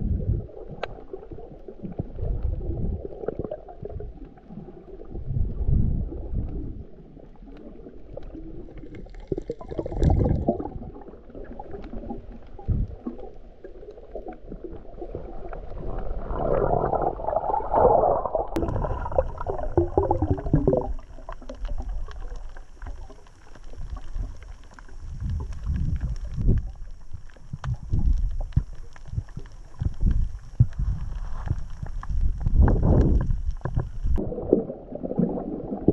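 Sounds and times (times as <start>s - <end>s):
underwater rumbling and gurgling: 0.0s - 35.9s.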